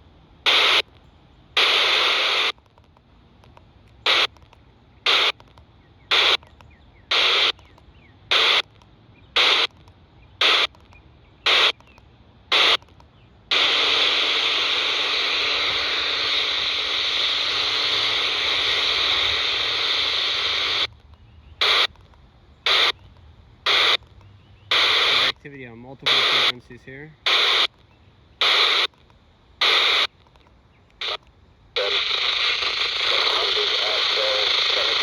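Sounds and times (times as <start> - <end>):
steady static hiss: 0.0 - 35.0
radio static bursts: 0.4 - 0.9, 1.5 - 2.7, 4.0 - 7.7, 8.3 - 8.8, 9.4 - 21.0, 21.6 - 22.0, 22.6 - 29.0, 29.6 - 35.0.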